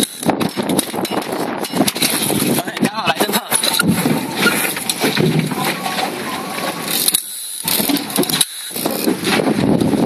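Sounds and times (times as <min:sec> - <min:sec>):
wind buffeting microphone: 0:00.0 - 0:07.0, 0:07.7 - 0:10.0.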